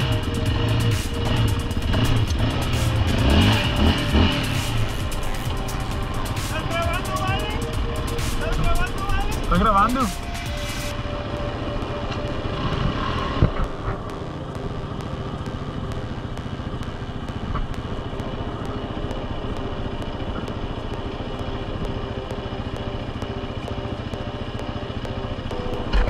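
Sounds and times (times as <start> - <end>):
atv engine idling: 0.0 - 26.0
atv engine revving: 0.0 - 26.0.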